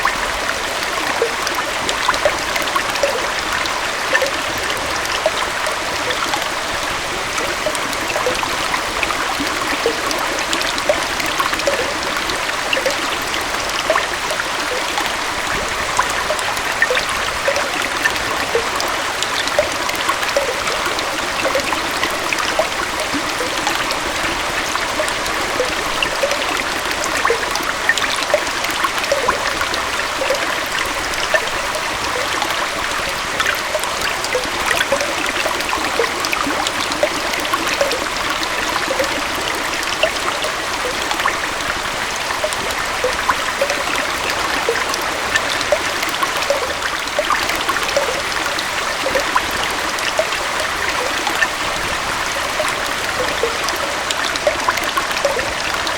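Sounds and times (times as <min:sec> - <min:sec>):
water bubbling over rocks: 0:00.0 - 0:55.9
waterfall and stream rushing: 0:00.0 - 0:55.9.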